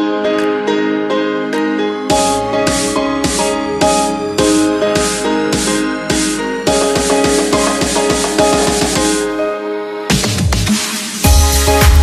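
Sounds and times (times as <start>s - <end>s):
electronic music beat: 0.0s - 9.5s, 10.1s - 12.0s
steady synth notes: 0.1s - 9.7s.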